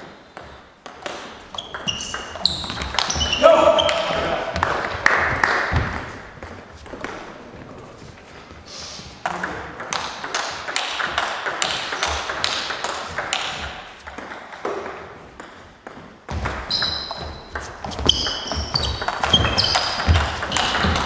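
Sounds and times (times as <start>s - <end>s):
table tennis ball bouncing: 0.4s - 7.2s, 9.2s - 21.0s.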